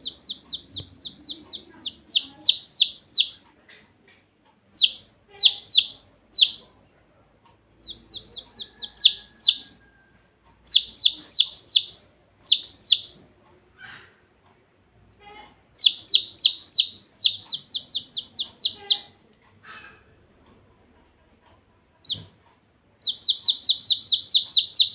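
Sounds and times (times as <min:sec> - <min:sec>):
baby chicks peeping: 0:00.0 - 0:24.9.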